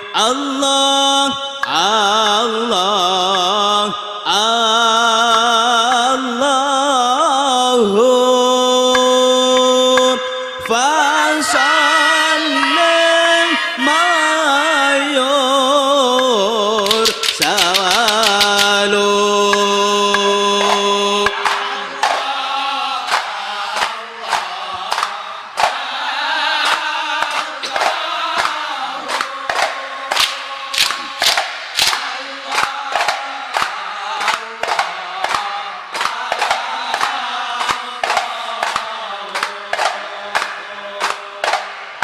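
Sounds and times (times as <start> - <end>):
men's chorus chanting in unison: 0.0 - 42.0
group hand-claps and slaps: 1.2 - 7.3, 8.7 - 11.6, 16.0 - 42.0.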